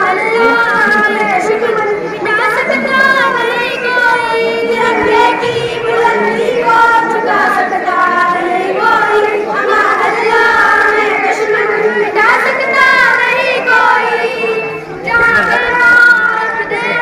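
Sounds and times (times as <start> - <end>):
girls singing into a microphone: 0.0 - 17.0.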